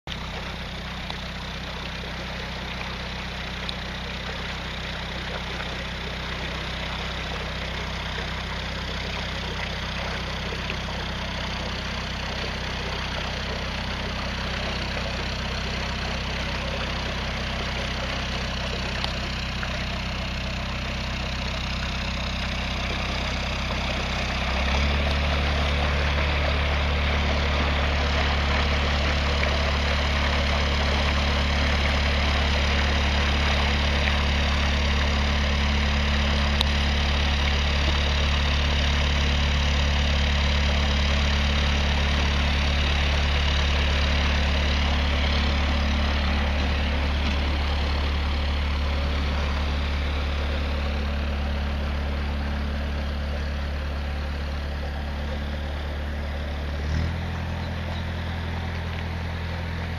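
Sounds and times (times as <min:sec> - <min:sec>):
boat diesel engine humming: 0:00.0 - 0:59.9.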